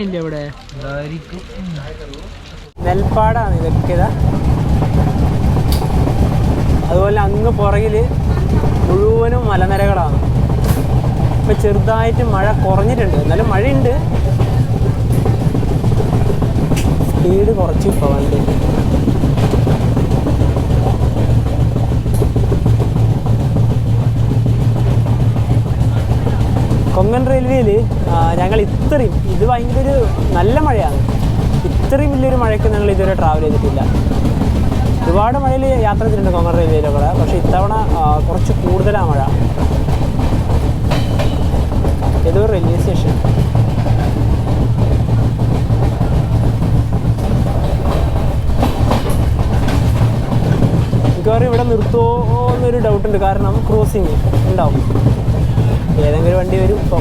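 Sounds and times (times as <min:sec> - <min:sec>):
small knocks of train wheels: 0:00.0 - 0:57.0
train wheels rumbling on rails: 0:00.0 - 0:57.0.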